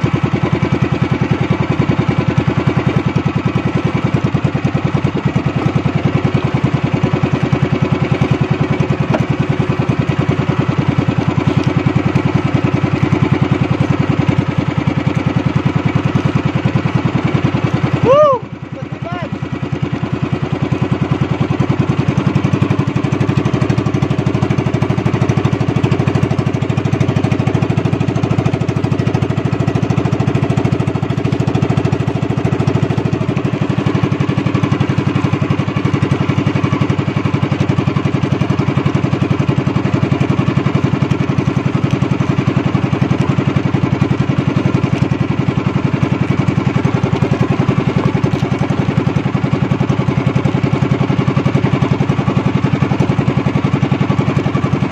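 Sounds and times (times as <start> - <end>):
small boat engine chugging: 0.0 - 54.9.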